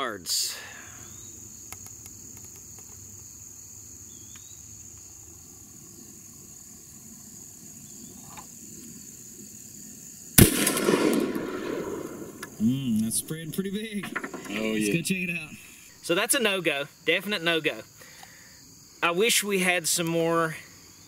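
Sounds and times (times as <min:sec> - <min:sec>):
crickets droning: 0:00.0 - 0:21.0.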